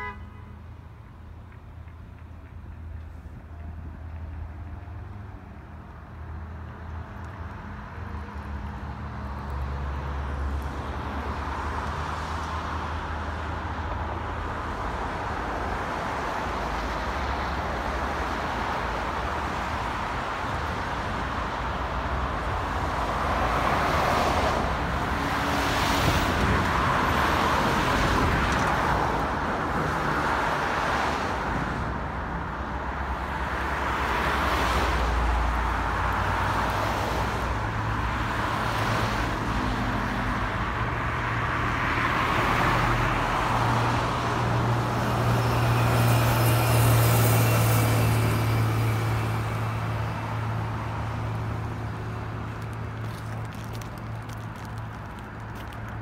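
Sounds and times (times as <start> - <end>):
cars passing close: 0.0 - 56.0
traffic hum: 0.0 - 56.0.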